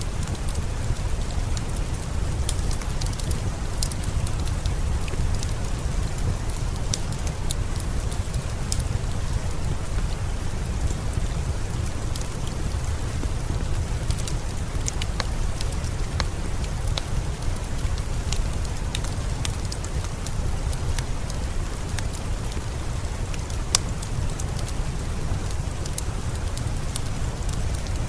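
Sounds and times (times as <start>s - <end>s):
fire crackling: 0.0s - 28.0s
steady rain: 0.0s - 28.0s.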